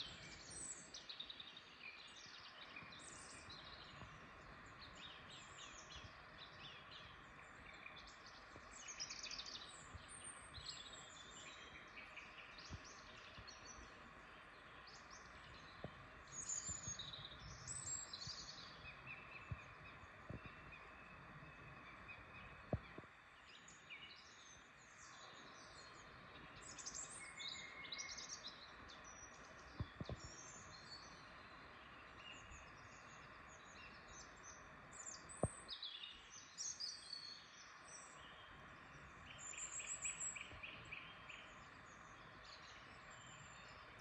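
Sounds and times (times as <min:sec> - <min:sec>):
faint steady hiss: 0:00.0 - 0:44.0
small birds singing and chirping: 0:00.0 - 0:44.0.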